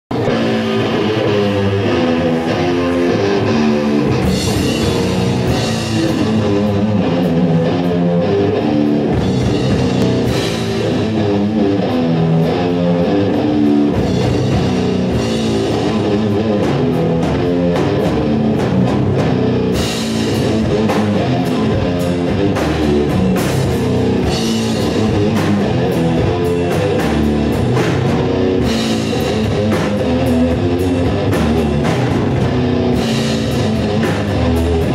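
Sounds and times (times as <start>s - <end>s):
drum kit: 0.1s - 34.9s
electric guitars and bass riffing: 0.1s - 34.9s.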